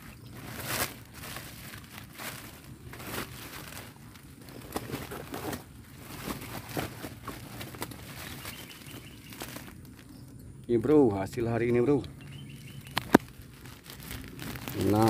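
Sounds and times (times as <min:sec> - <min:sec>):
sack rustling and crinkling: 0:00.0 - 0:10.3, 0:12.5 - 0:15.0.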